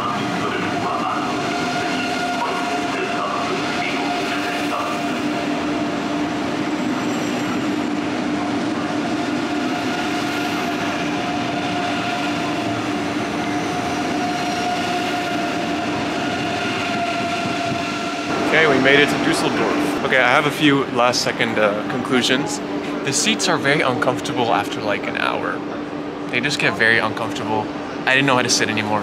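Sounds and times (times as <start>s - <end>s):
train electric hum: 0.0s - 29.0s
train wheels rumbling on rails: 0.0s - 29.0s.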